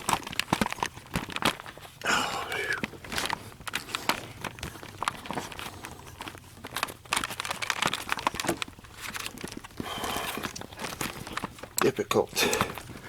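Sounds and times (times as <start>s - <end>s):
hands rustling and scraping twine: 0.0s - 13.0s.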